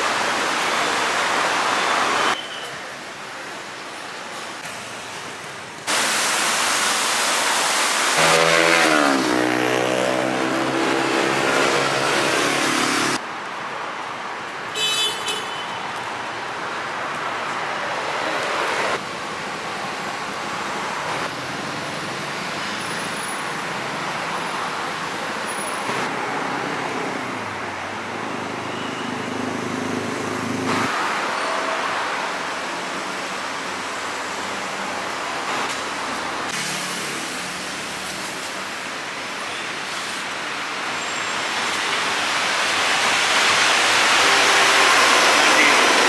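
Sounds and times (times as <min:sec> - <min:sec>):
road noise from passing cars: 0:03.1 - 0:14.9, 0:15.8 - 0:46.0.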